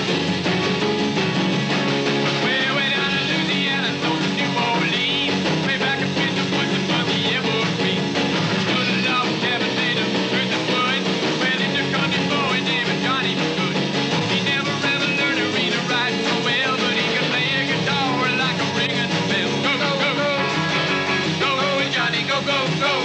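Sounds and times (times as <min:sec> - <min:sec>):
bass guitar: 0:00.0 - 0:23.0
drums beating: 0:00.0 - 0:23.0
electric guitars: 0:00.0 - 0:23.0.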